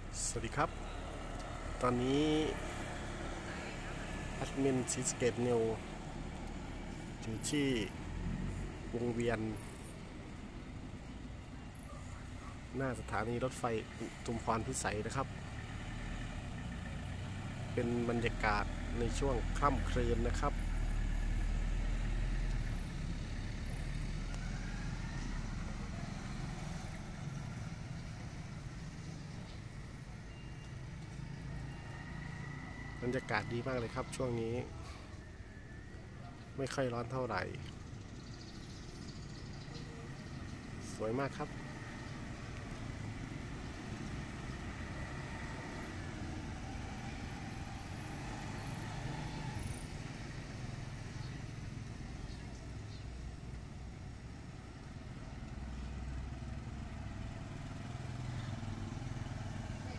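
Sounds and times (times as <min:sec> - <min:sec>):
motorcycles riding past: 0:00.0 - 0:59.9.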